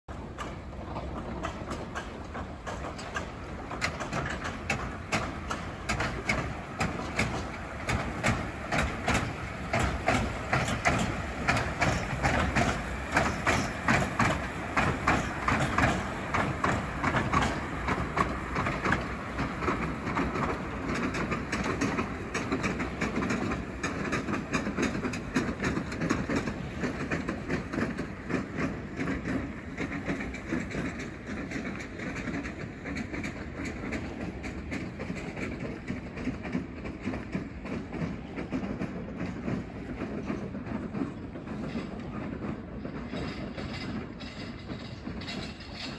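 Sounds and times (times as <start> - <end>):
train wheels clicking over rail joints: 0.1 - 45.9.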